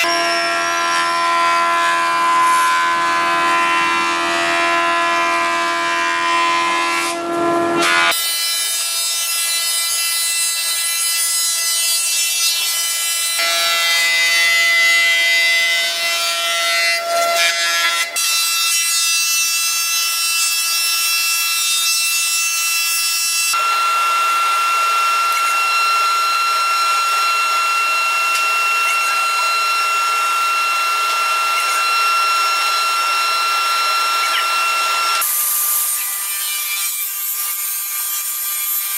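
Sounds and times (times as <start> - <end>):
woodworking machine whining: 0.0 - 18.5, 19.7 - 38.9.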